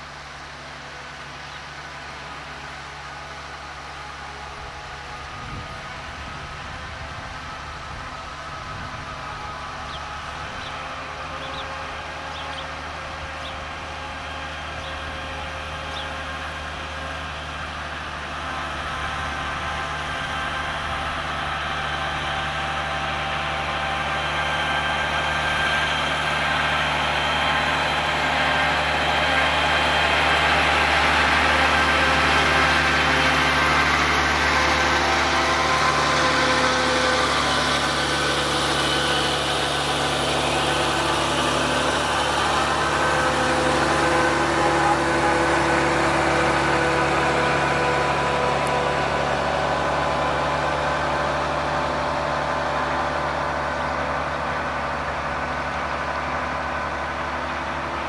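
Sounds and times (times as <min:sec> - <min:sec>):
heavy diesel engine humming: 0:00.0 - 0:58.0.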